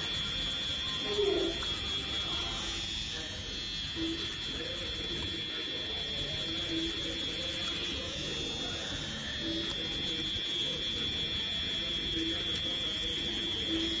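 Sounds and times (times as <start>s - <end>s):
tattoo machine buzzing: 0.0s - 14.0s.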